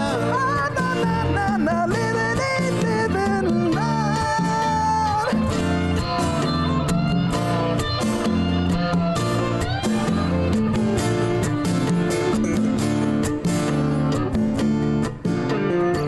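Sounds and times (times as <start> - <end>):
hand percussion: 0.0 - 15.8
bass guitar: 0.0 - 16.0
electric guitar lead line: 0.0 - 16.0
rhythm guitar: 0.0 - 16.0.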